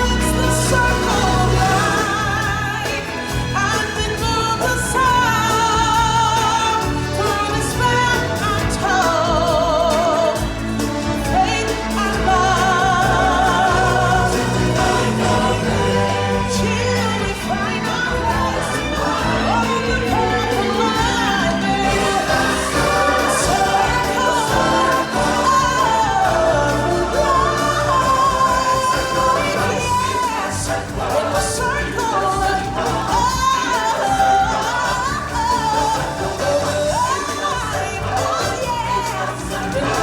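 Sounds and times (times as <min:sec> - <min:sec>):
singers with live band: 0:00.0 - 0:40.0
lead voice singing melody: 0:04.8 - 0:40.0.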